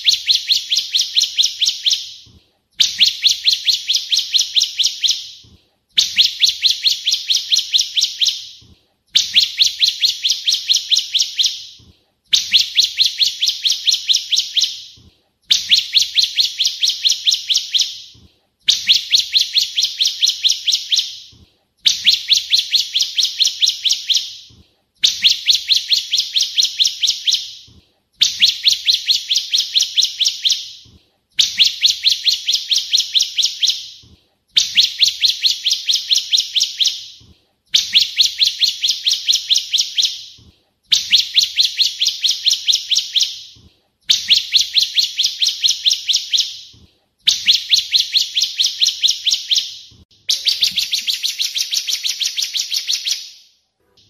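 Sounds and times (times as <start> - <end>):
bird chirping song: 0.0 - 53.3.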